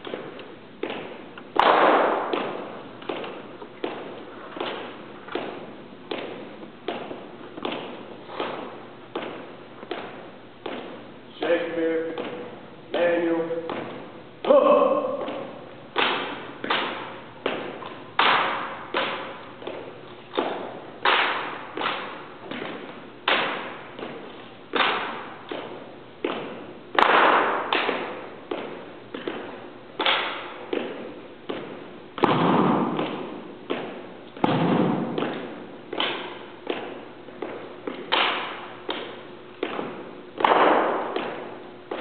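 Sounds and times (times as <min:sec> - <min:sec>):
hands slapping rifles: 0:00.0 - 0:11.0, 0:15.2 - 0:42.0
marching heel strikes: 0:00.0 - 0:42.0.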